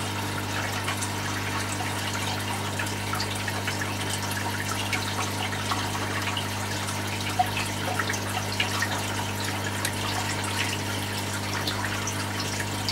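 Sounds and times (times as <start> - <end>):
aquarium water bubbling: 0.0 - 12.9
low electrical hum: 0.0 - 12.9.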